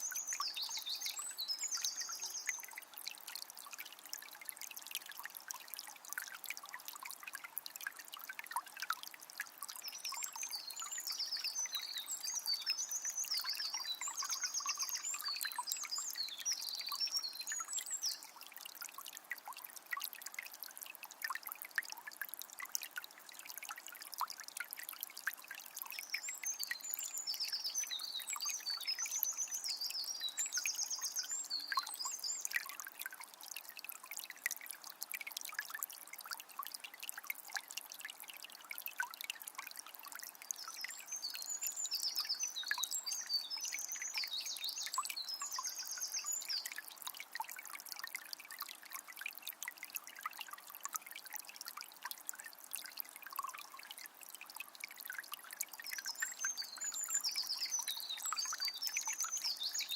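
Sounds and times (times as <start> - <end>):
spring water trickling: 0.0 - 59.9.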